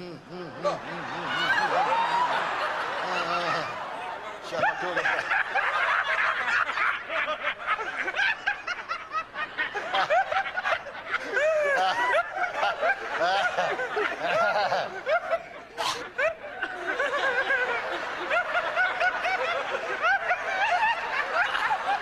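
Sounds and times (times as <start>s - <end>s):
crowd laughing: 0.4s - 22.0s.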